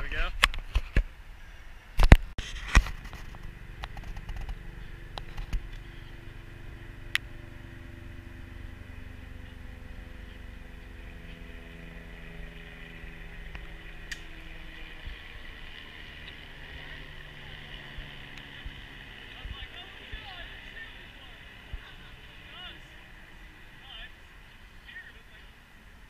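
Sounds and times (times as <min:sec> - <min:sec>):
steady low hum: 0:01.1 - 0:26.0.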